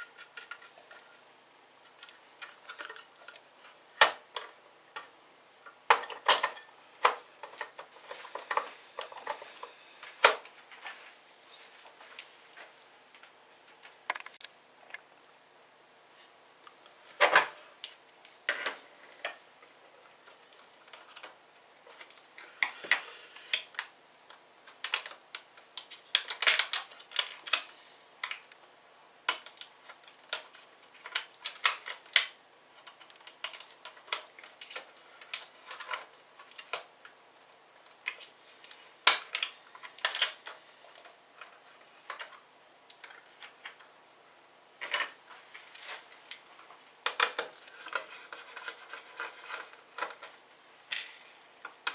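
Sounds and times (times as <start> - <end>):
laptop parts clicking and clattering: 0.0 - 10.6, 12.2 - 15.1, 16.8 - 28.6, 29.2 - 37.2, 37.8 - 44.0, 44.8 - 51.9.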